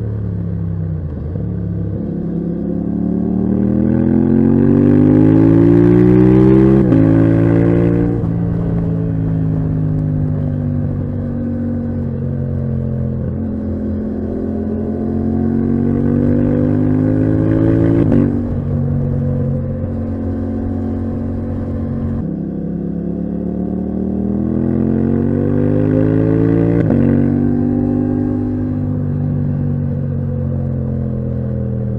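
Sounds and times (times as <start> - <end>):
motorcycle engine accelerating: 0.0 - 31.9.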